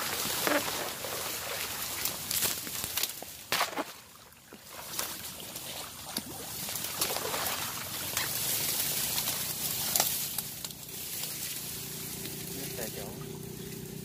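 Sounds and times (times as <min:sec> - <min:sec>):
dry grass rustling and crackling: 0:00.0 - 0:14.0.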